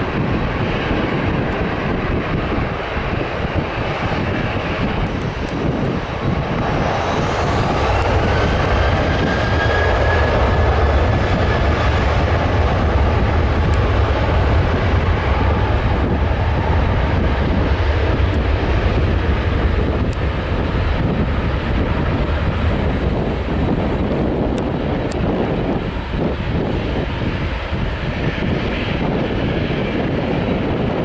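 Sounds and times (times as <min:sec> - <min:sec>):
airliner engines roaring: 0:00.0 - 0:31.0
high engine whine: 0:00.0 - 0:31.0.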